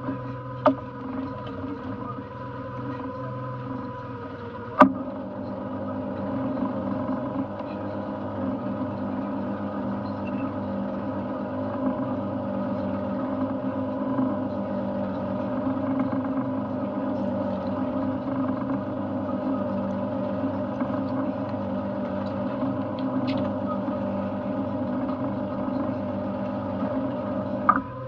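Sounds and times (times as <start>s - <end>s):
outboard engine droning: 0.0s - 28.0s.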